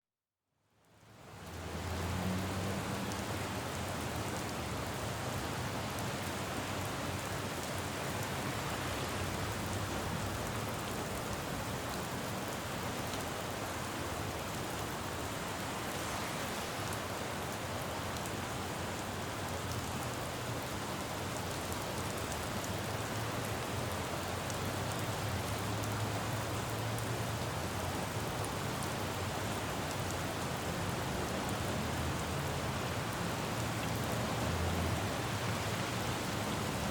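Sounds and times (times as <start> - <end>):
rain falling on road: 0.8 - 36.9
traffic rumble on wet street: 0.9 - 36.9.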